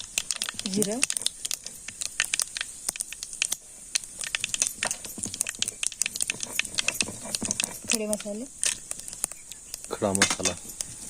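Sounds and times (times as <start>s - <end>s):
oil sizzling: 0.0s - 11.0s
seeds popping in hot oil: 0.0s - 11.0s.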